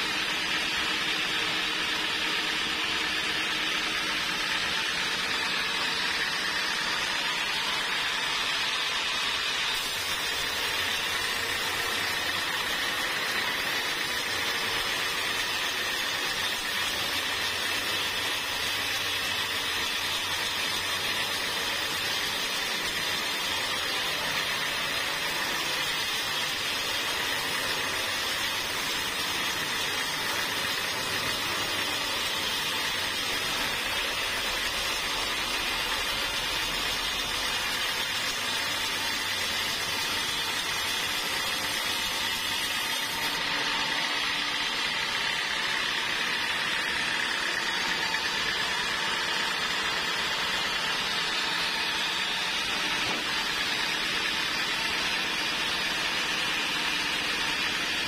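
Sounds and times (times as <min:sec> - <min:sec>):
band saw cutting log: 0:00.0 - 0:58.0
saw motor running: 0:00.0 - 0:58.0.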